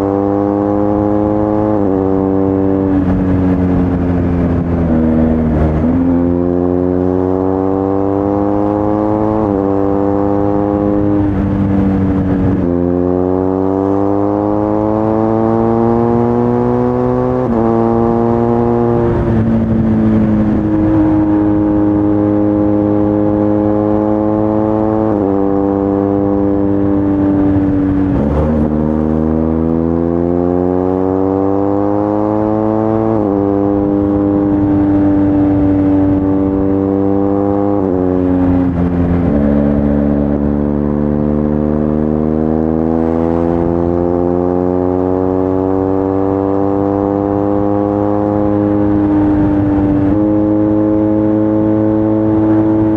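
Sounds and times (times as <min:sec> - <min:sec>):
motorcycle engine under power: 0:00.0 - 0:52.9.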